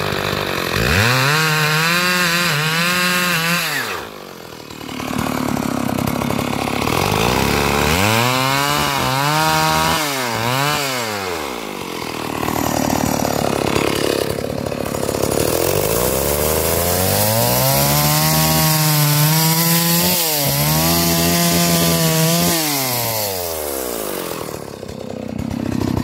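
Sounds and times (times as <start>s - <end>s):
chainsaw cutting through log: 0.0s - 26.0s.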